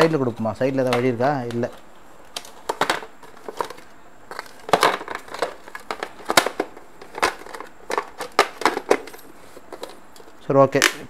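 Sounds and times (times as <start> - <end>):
plastic scraping: 0.2 - 10.4
hard plastic clicking: 0.3 - 11.0.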